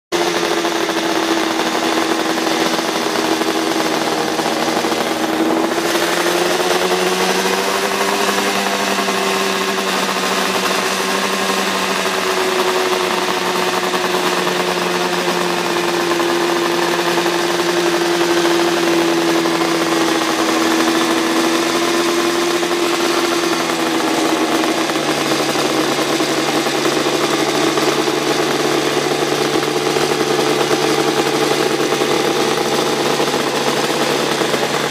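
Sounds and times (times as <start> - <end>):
two-stroke racing engine running: 0.0 - 34.9.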